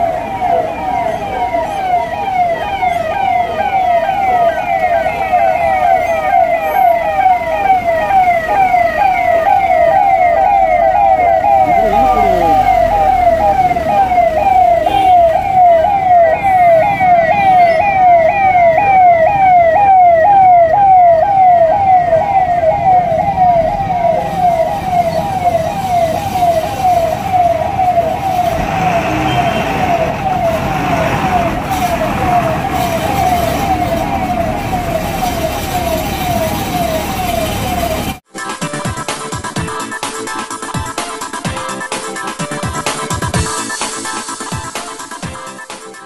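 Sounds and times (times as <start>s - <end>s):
police siren: 0.0s - 38.2s.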